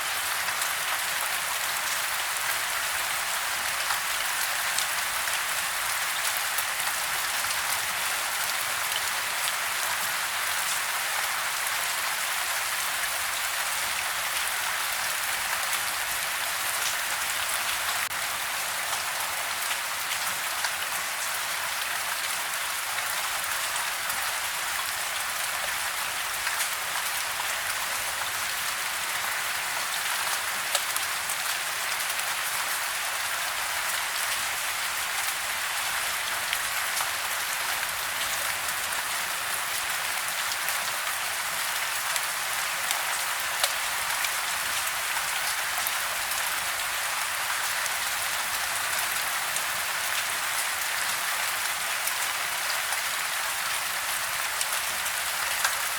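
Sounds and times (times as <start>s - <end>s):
soft rain falling: 0.0s - 55.9s.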